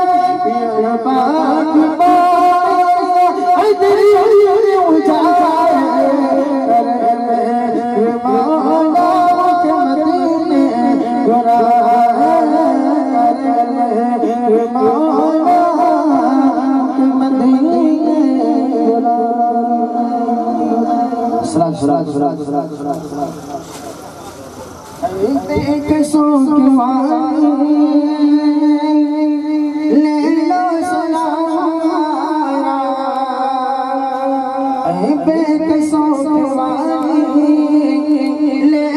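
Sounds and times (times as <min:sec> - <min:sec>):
man singing into a microphone: 0:00.0 - 0:23.4, 0:25.0 - 0:38.9.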